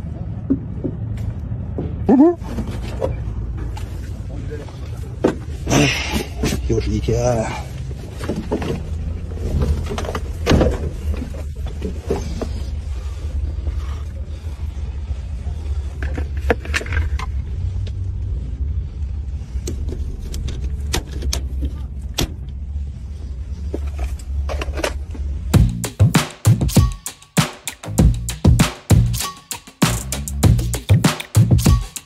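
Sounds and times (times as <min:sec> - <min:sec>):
car interior rumble: 0:00.0 - 0:25.9.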